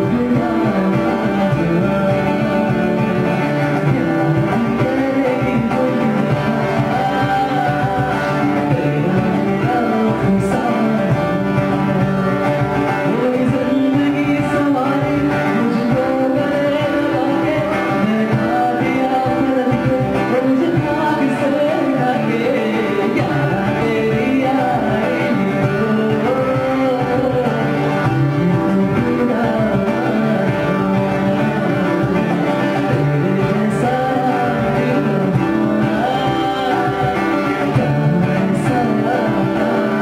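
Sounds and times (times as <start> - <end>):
acoustic guitar: 0.0 - 40.0
cajon drumming: 0.0 - 40.0
man singing: 0.0 - 40.0.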